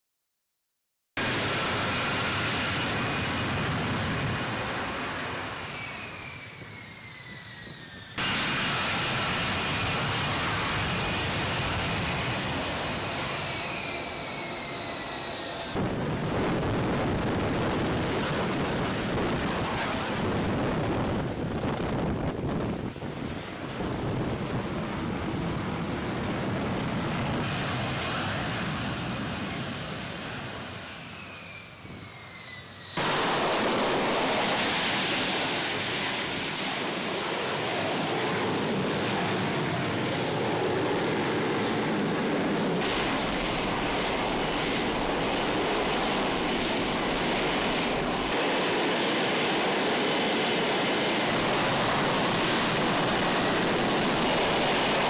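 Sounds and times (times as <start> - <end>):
jet engine whine: 1.2 - 55.0.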